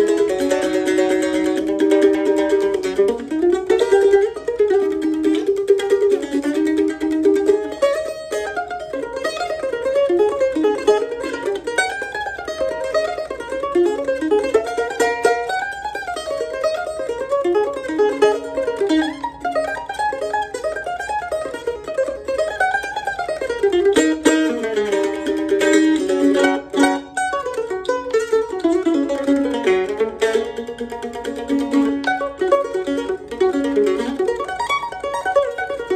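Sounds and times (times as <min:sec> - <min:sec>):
mandolin picked runs: 0:00.0 - 0:35.9.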